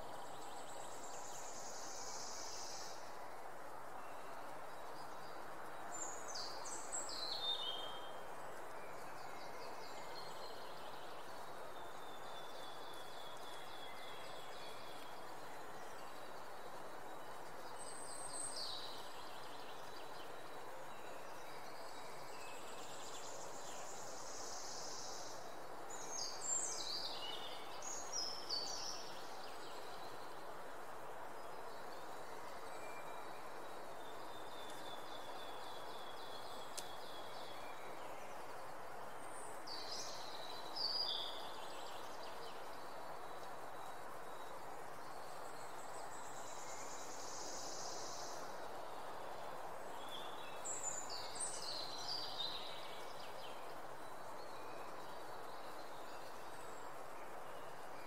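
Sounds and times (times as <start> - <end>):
background hiss: 0.0 - 58.0
songbirds singing: 0.0 - 58.0.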